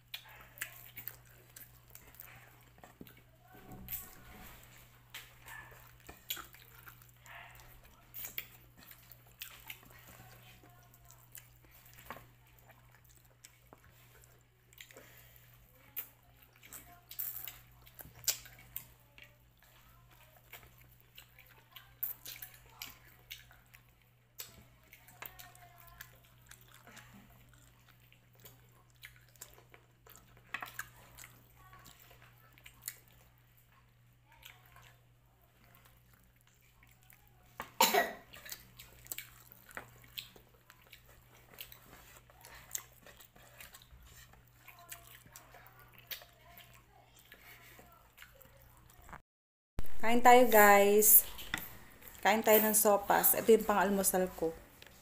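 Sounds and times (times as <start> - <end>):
lip smacks and chewing: 0.0 - 49.2.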